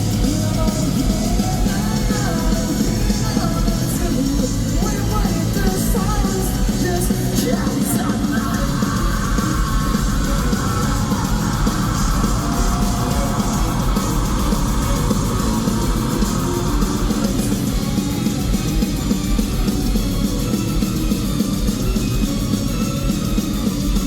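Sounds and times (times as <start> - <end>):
drums: 0.0 - 24.0
electric guitar: 0.0 - 24.0
live rock band playing: 0.0 - 24.0.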